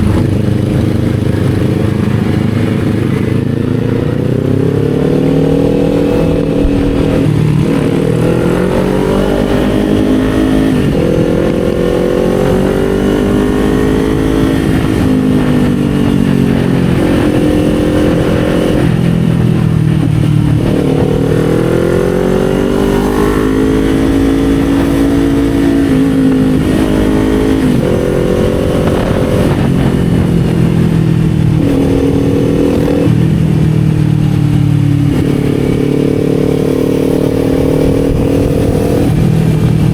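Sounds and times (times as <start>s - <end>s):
motorcycle engine revving: 0.0s - 39.9s
wind and road rush: 0.0s - 39.9s.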